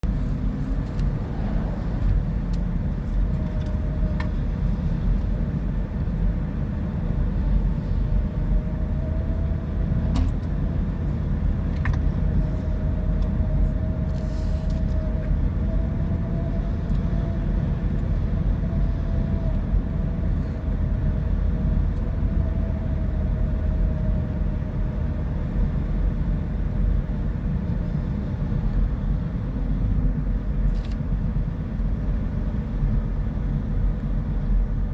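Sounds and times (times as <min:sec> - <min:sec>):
vehicle engine and road rumble: 0:00.0 - 0:34.9.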